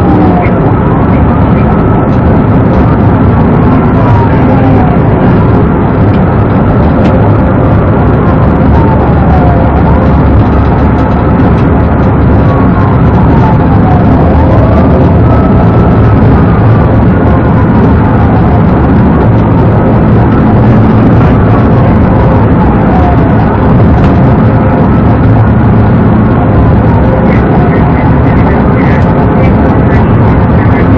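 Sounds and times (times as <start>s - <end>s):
car road and engine noise: 0.0s - 30.9s
police siren wailing: 0.0s - 30.9s.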